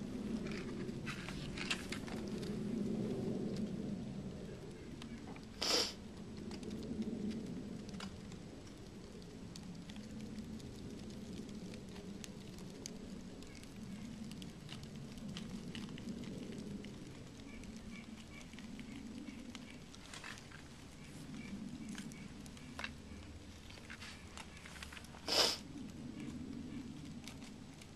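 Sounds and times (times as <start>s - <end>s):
fire crackling and popping: 0.0s - 27.9s
low uneven rumble: 0.0s - 27.9s.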